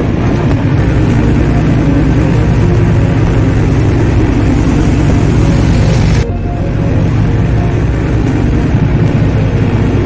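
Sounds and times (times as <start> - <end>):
boat engine drone: 0.0 - 10.0
wind and water noise: 0.0 - 10.0.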